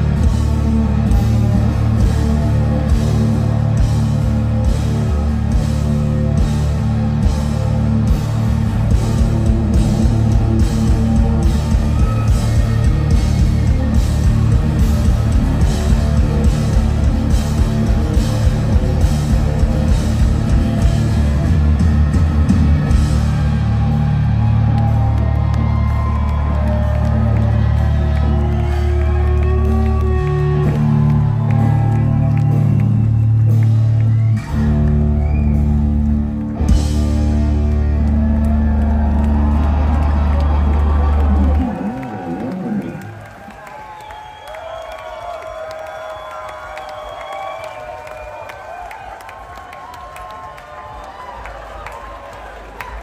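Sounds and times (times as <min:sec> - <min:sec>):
bass guitar: 0:00.0 - 0:43.3
electric guitars: 0:00.0 - 0:43.5
drums: 0:00.0 - 0:53.0.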